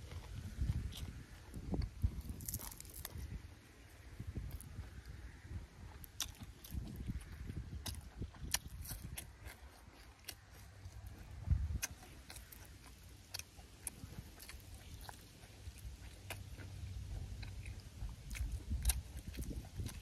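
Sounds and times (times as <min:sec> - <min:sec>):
person chewing: 0:00.0 - 0:20.0.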